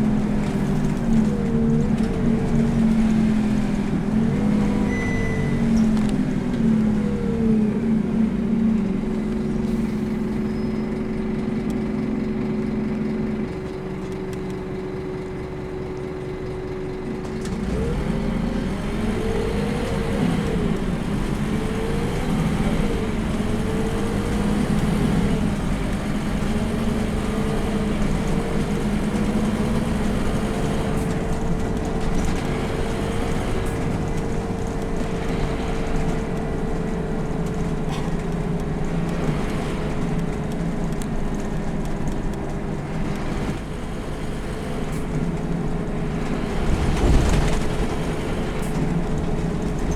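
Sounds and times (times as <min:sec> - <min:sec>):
bus drivetrain whine: 0:00.0 - 0:49.9
low diesel engine rumble: 0:00.0 - 0:49.9.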